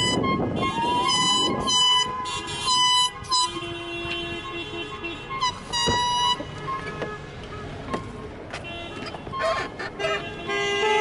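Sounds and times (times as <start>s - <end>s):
reedy horn blasts: 0.0s - 7.8s, 8.6s - 11.0s.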